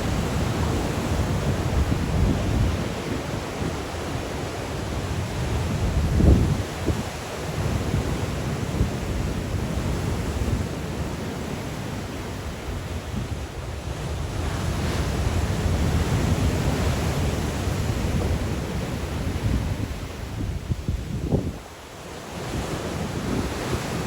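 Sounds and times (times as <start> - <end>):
sea waves breaking on shore: 0.0 - 24.0
wind rumble on microphone: 0.0 - 24.0.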